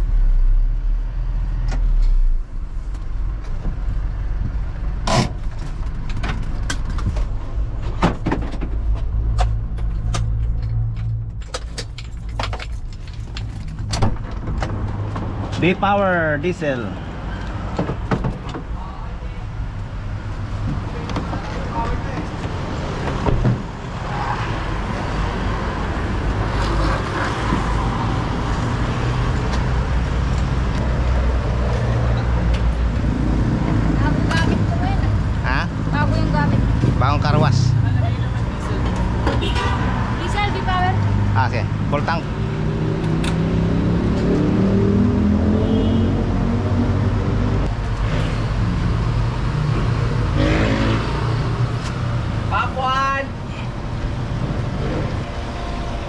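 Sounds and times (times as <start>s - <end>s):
traffic noise: 0.0s - 56.0s
vehicle engine humming: 0.0s - 56.0s.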